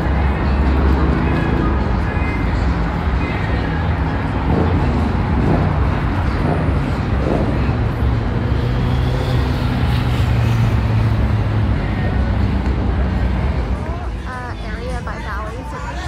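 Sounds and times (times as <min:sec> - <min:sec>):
cars passing: 0:00.0 - 0:16.0
low rumble of engines and tyres: 0:00.0 - 0:16.0.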